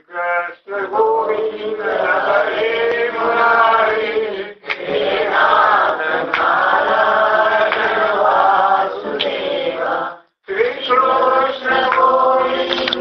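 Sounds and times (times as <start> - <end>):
devotional chanting in long notes: 0.0 - 13.0.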